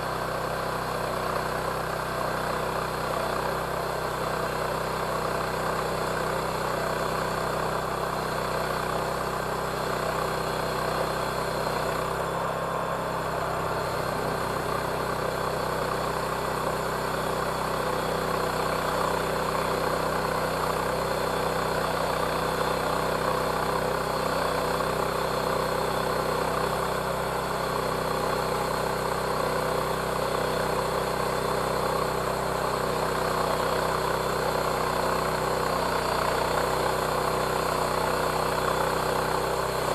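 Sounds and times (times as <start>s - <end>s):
saw blade cutting log: 0.0s - 39.9s
sawmill engine running: 0.0s - 39.9s.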